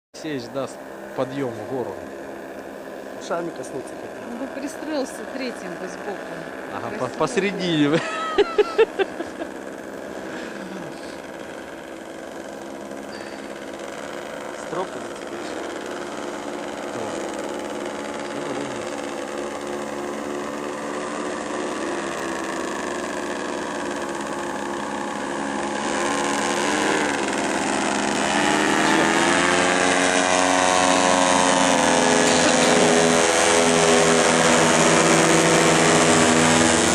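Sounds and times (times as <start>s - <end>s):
paramotor engine and propeller: 0.2s - 36.9s.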